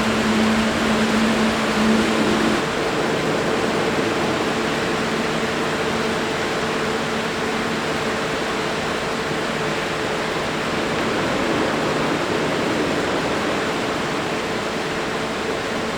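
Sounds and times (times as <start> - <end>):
jet engines running: 0.0 - 14.8.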